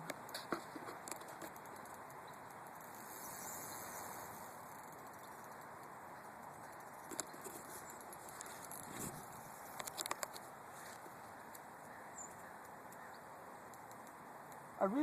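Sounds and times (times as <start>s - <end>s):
outdoor ambient hiss: 0.0s - 15.0s.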